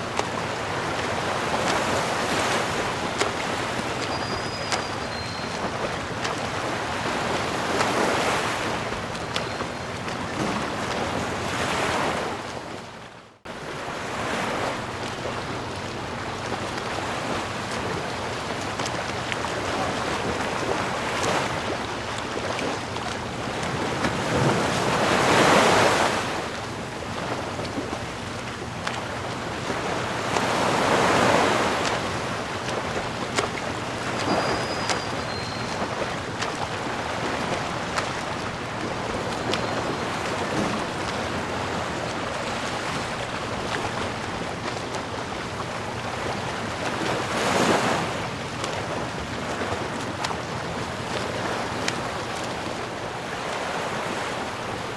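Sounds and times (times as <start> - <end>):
ocean waves breaking: 0.0 - 54.9.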